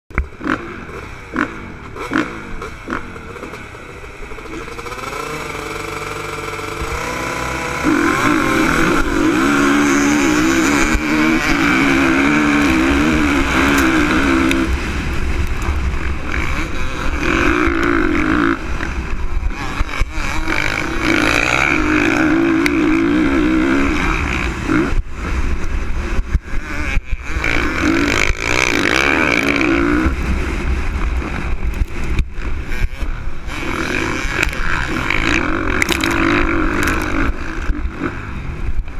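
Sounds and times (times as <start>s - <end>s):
motocross engine revving: 0.1s - 38.8s.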